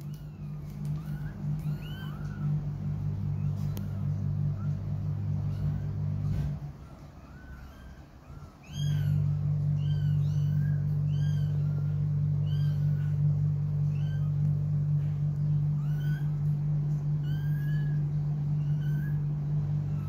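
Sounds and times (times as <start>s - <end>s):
kittens mewing: 0.0s - 20.0s
steady low hum: 0.0s - 20.0s.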